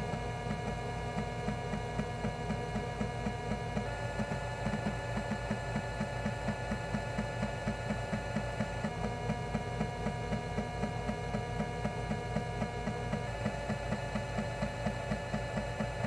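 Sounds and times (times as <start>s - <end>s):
floppy drive motor hum: 0.0s - 16.0s.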